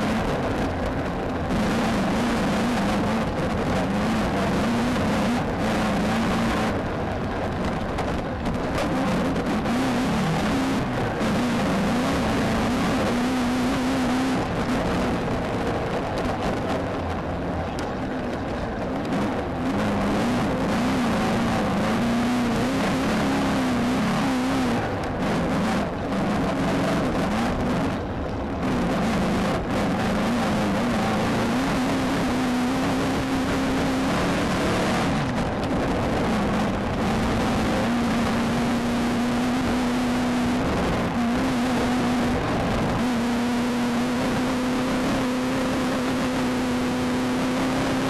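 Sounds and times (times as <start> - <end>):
car engine at speed: 0.0 - 48.0
tyre and terrain noise: 0.0 - 48.0.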